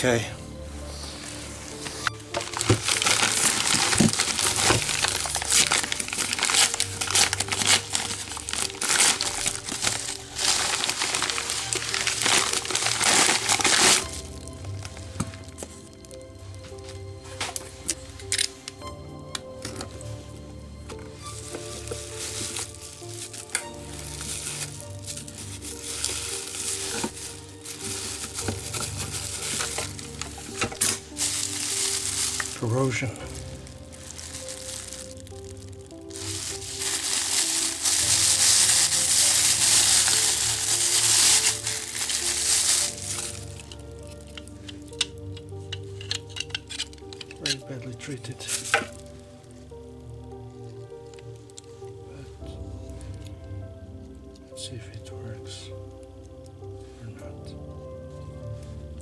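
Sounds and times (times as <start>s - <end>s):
quiet background music: 0.0s - 59.0s
packaging crumpling and crinkling: 1.0s - 18.9s, 21.0s - 53.4s.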